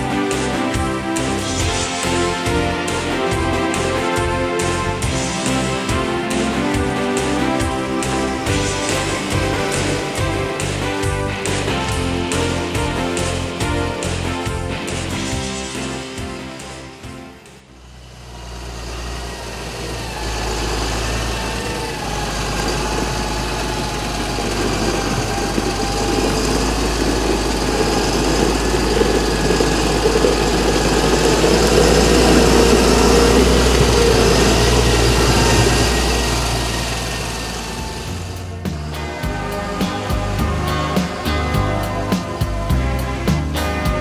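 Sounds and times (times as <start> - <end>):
tractor diesel engine: 0.0 - 44.0.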